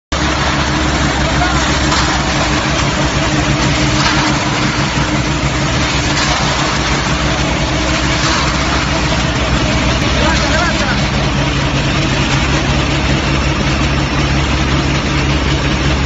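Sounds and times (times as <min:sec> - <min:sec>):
concrete mixer engine running: 0:00.1 - 0:16.0
wet concrete discharging: 0:00.2 - 0:16.0.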